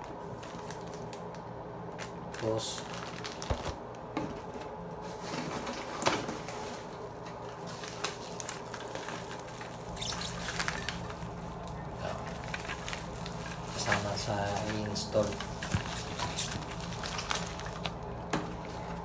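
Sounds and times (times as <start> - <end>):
plastic packaging crinkling: 0.0 - 19.0
steady low hum: 0.0 - 19.0.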